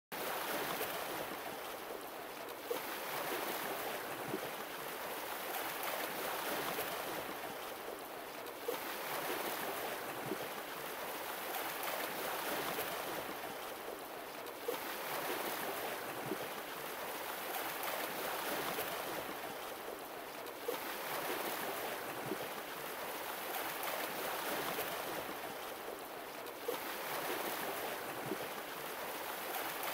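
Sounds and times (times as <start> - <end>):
water splashing and lapping: 0.1 - 29.9.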